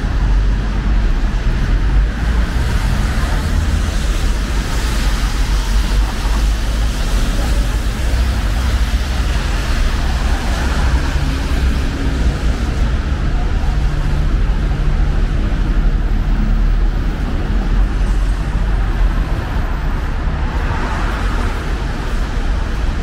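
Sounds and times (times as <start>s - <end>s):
cars passing: 0.0s - 23.0s
low traffic rumble: 0.0s - 23.0s
traffic hiss: 0.0s - 23.0s.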